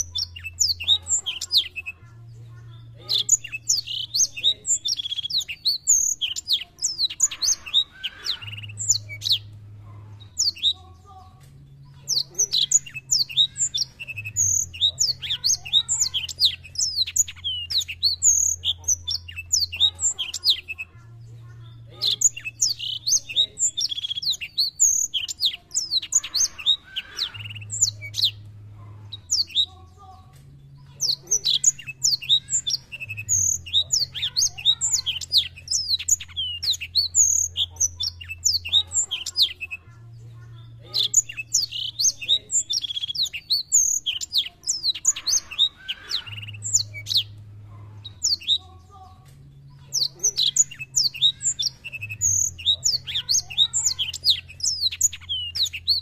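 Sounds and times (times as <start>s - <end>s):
canary singing: 0.0s - 56.0s
faint low hum: 0.0s - 56.0s.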